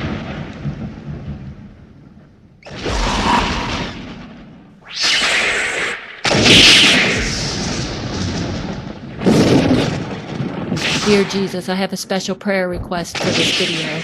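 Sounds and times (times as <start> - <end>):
lightning strike and thunder: 0.0 - 11.8.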